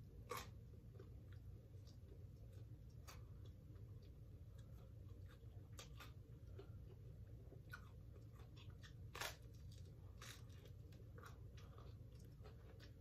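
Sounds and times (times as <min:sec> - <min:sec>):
person chewing: 0:00.0 - 0:13.0
pizza bite crunch: 0:00.0 - 0:13.0.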